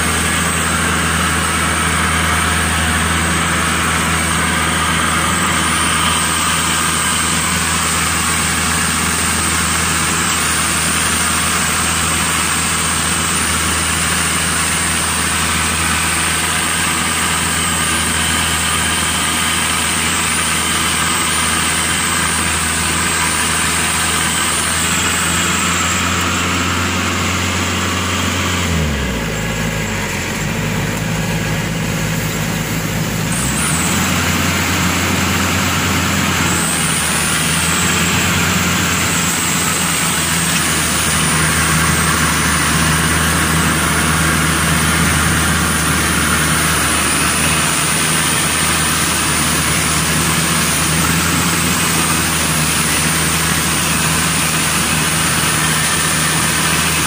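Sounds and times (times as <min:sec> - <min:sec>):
combine harvester engine drone: 0:00.0 - 0:57.0
high mechanical whine: 0:00.0 - 0:57.0.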